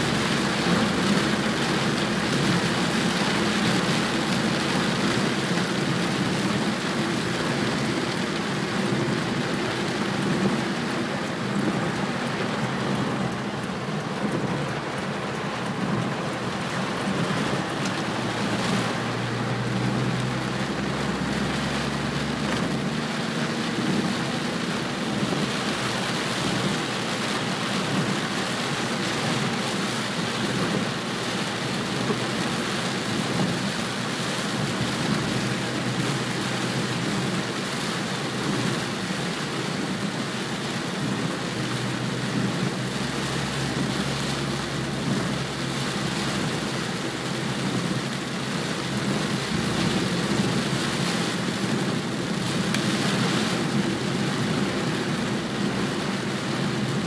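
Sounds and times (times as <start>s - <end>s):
heavy rain on car windshield: 0.0s - 57.0s
low car hum: 0.0s - 57.0s
tyres hissing on wet road: 0.0s - 57.0s.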